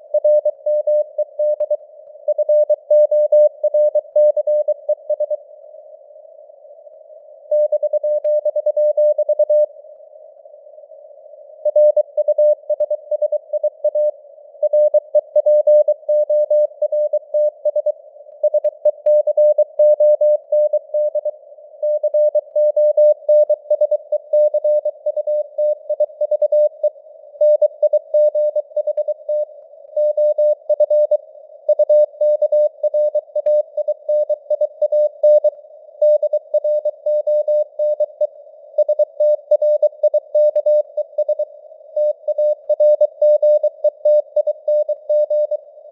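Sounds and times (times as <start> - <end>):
morse code beep tone: 0.2 - 5.4, 7.5 - 9.7, 11.7 - 45.6.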